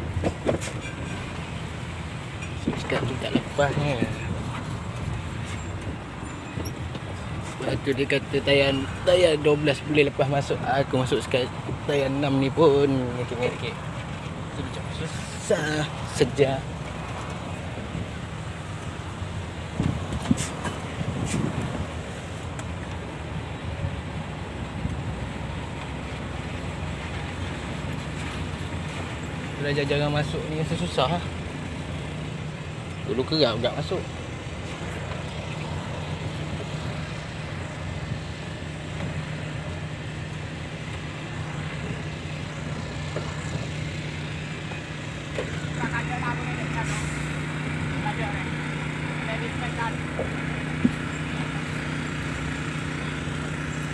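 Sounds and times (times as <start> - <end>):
lorry engine running: 0.0 - 53.9.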